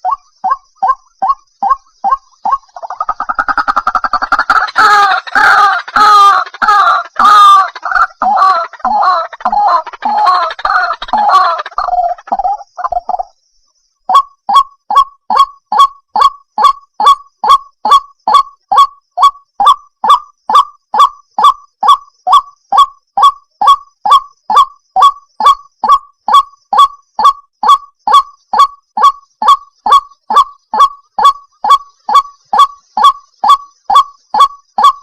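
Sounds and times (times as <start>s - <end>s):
waterhen calling: 0.0s - 13.3s, 14.1s - 35.0s.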